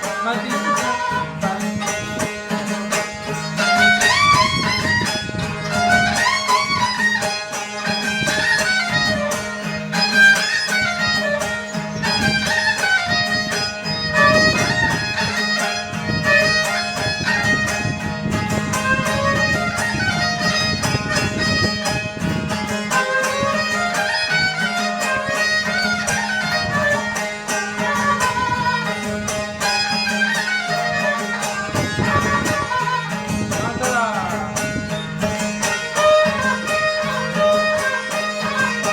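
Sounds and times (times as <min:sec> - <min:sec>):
folk bowed string melody with drone: 0:00.0 - 0:38.9.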